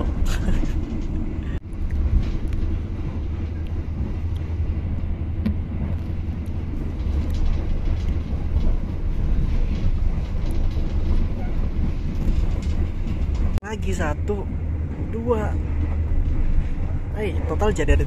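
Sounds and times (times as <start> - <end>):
train carriage rumble inside: 0.0 - 18.0.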